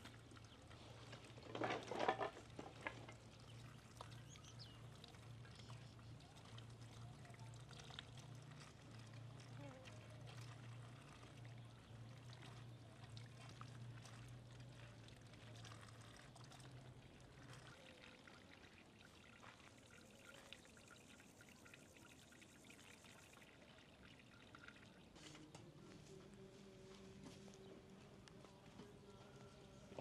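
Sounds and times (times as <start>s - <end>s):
water trickling: 0.0s - 25.6s
low steady hum: 0.0s - 30.0s.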